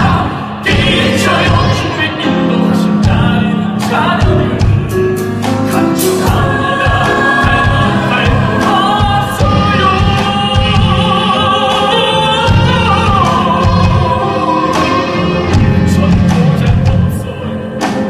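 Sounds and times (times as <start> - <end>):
drum kit and cymbals: 0.0 - 18.0
grand piano: 0.0 - 18.0
group of voices singing: 0.0 - 18.0.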